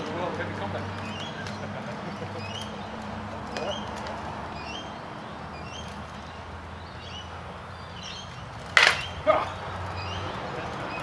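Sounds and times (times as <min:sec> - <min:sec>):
outdoor background noise: 0:00.0 - 0:11.0
bird chirps: 0:00.8 - 0:11.0.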